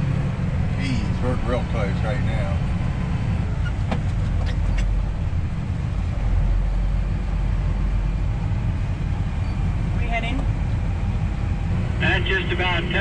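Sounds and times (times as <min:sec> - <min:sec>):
tractor engine rumble: 0:00.0 - 0:13.0.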